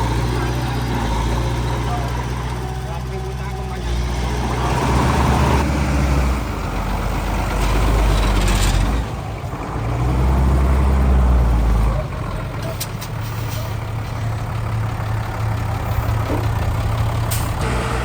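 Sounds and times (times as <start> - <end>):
heavy diesel engine rumbling: 0.0 - 18.0.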